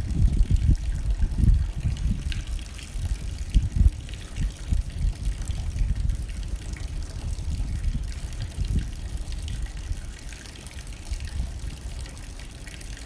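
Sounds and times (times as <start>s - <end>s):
rain drops ticking on window: 0.0s - 13.0s
wind gusts: 0.0s - 13.0s.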